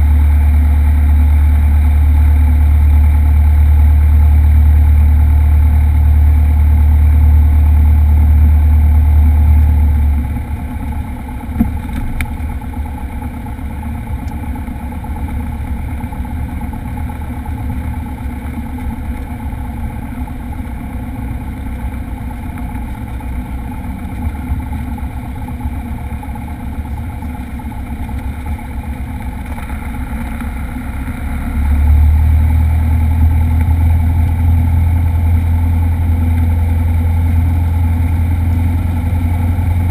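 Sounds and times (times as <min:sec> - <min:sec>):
propeller aircraft engine: 0:00.0 - 0:39.9.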